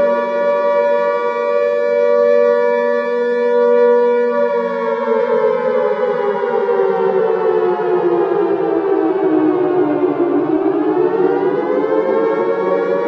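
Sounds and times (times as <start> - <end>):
air-raid siren wailing: 0.0 - 13.0.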